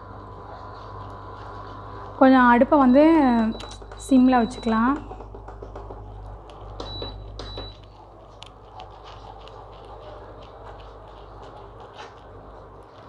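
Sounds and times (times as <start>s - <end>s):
induction cooktop hum: 0.0s - 13.0s.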